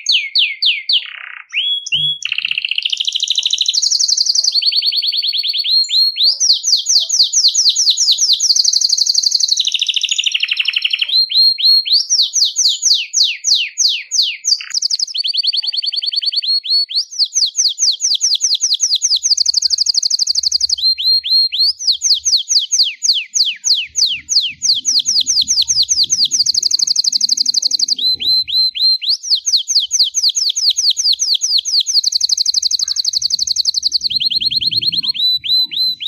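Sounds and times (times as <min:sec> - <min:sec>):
canary singing trills: 0:00.0 - 0:36.0.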